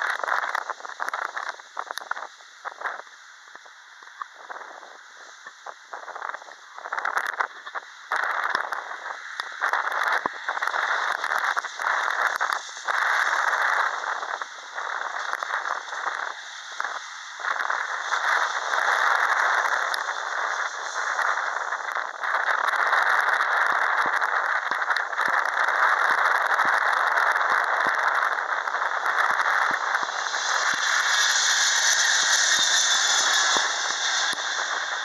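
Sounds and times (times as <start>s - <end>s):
jet engines at take-off: 0.0s - 35.0s.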